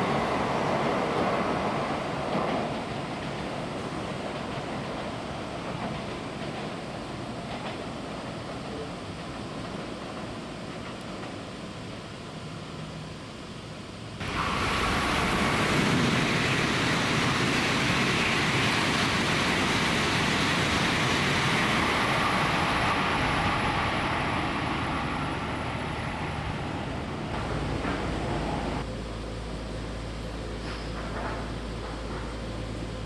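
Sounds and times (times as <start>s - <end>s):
high-speed train passing: 0.0s - 33.0s.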